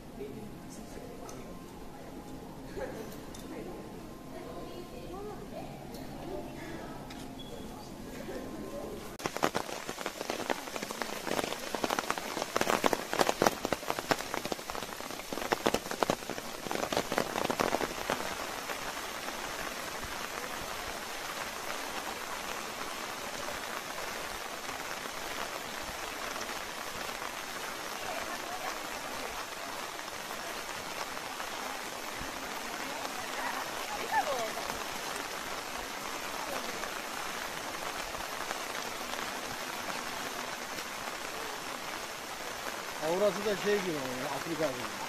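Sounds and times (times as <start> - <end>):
heavy rain: 0.0 - 7.4, 8.0 - 45.0.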